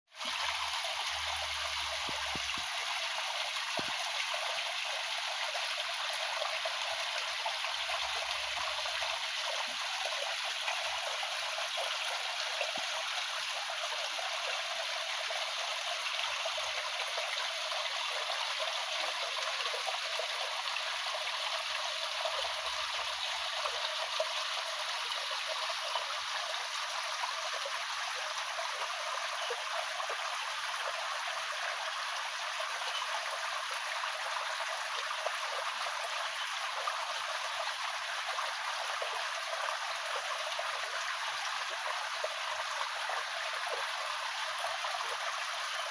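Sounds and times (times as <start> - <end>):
stream water running: 0.1 - 45.9.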